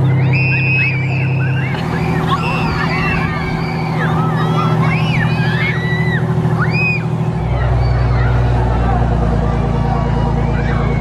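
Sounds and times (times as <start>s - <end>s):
children shrieking and squealing: 0.0s - 11.0s
fire truck engine humming: 0.0s - 11.0s.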